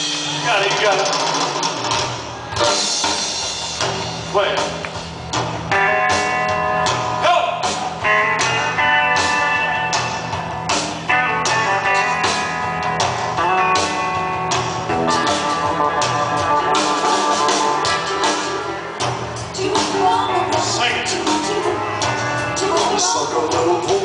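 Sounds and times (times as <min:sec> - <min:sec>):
electric guitar: 0:00.0 - 0:24.0
steady drum beat: 0:00.0 - 0:24.0.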